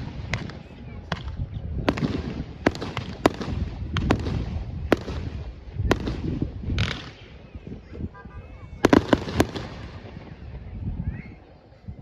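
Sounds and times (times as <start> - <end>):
fireworks bangs: 0.0 - 10.8.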